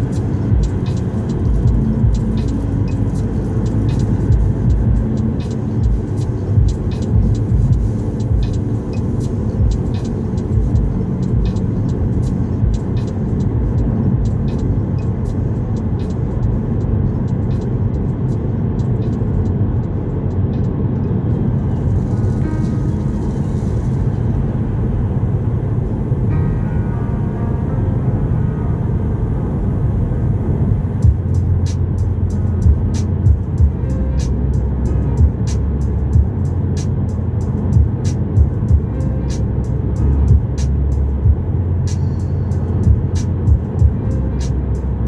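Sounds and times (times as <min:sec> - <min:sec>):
car cabin road rumble: 0:00.0 - 0:45.0.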